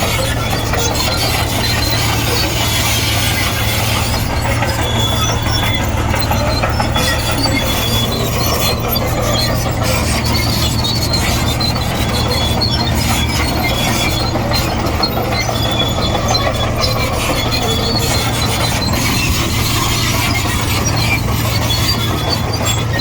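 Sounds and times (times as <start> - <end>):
bulldozer diesel engine under load: 0.0 - 23.0
steel tracks squealing: 0.0 - 23.0.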